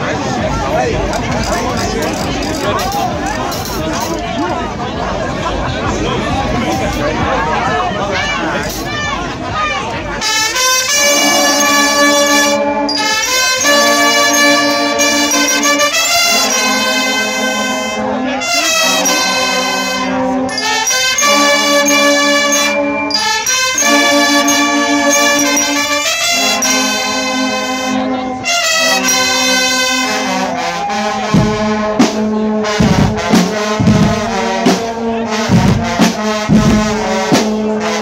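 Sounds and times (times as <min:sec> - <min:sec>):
brass band playing held chords: 0:00.0 - 0:38.0.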